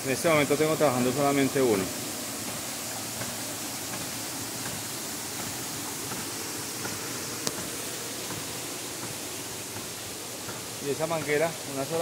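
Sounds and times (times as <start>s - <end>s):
water pouring over a dam: 0.0s - 12.0s.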